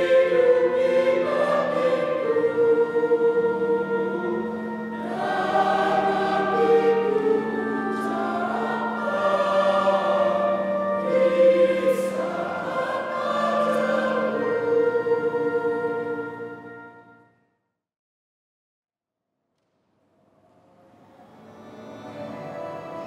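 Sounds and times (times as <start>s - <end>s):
choir singing a hymn: 0.0s - 17.1s, 21.3s - 23.0s
instrumental accompaniment: 0.0s - 17.3s, 21.0s - 23.0s.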